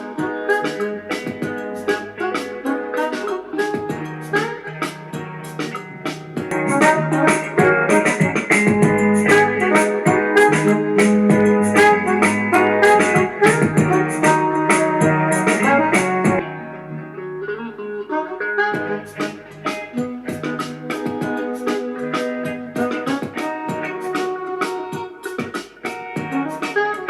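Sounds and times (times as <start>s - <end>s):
keyboard music with drum beat: 0.0s - 16.5s, 18.7s - 27.0s.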